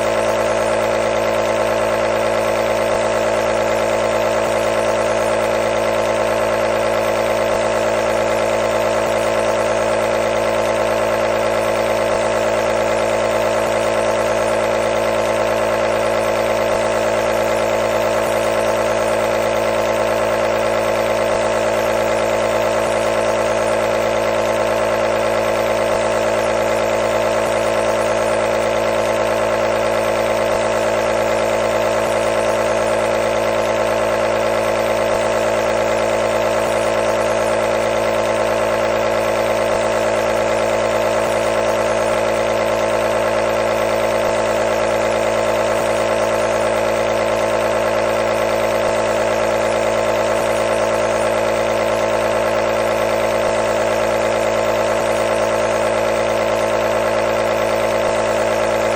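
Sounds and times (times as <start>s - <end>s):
nebulizer compressor humming: 0.0s - 58.9s.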